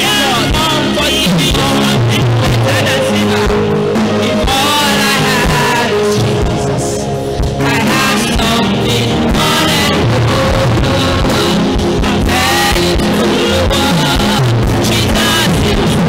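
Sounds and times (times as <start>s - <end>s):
live band with guitar and drums: 0.0s - 16.0s
woman singing into microphone: 0.0s - 16.0s.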